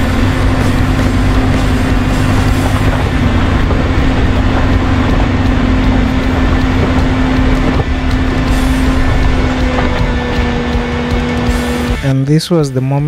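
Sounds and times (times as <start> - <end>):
car engine straining: 0.0 - 12.4
road noise: 0.0 - 12.4.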